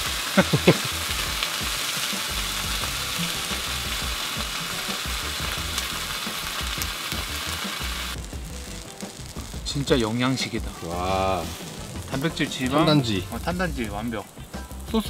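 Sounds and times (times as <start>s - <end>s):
eggs sizzling in a pan: 0.0s - 15.0s.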